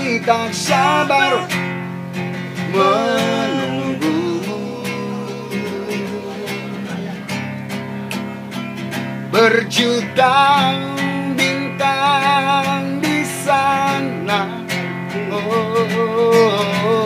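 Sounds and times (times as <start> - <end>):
man singing: 0.0 - 1.6, 2.6 - 7.3, 9.3 - 17.0
guitar strumming chords: 0.0 - 17.0.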